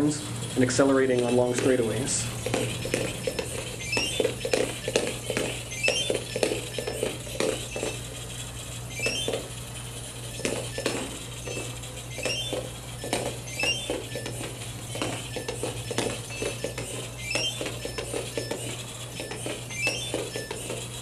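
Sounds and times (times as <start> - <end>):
small gearmotors clicking and rattling: 0.0 - 21.0
short high beeps from buzzer: 2.6 - 8.1, 8.9 - 9.6, 10.2 - 20.9.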